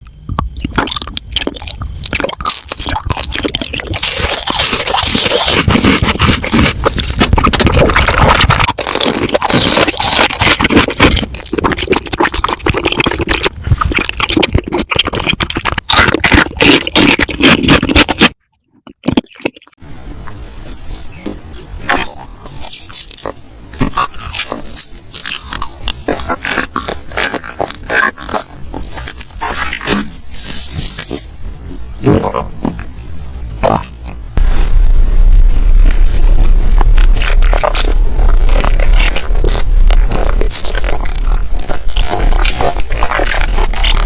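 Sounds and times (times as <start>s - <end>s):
crunching and chewing food: 0.0s - 19.8s, 20.7s - 44.0s.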